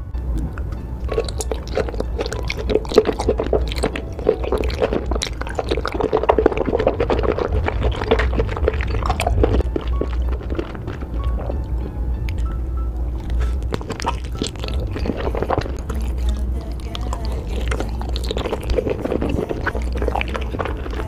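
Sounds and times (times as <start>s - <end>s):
wet chewing and slurping: 0.4s - 21.0s.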